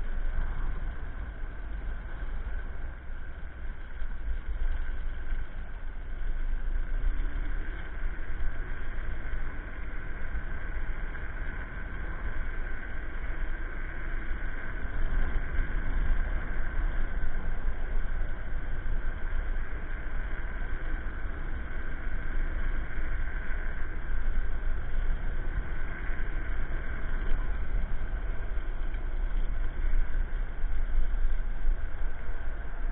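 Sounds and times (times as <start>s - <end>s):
wind rumbling on microphone: 0.0s - 32.9s.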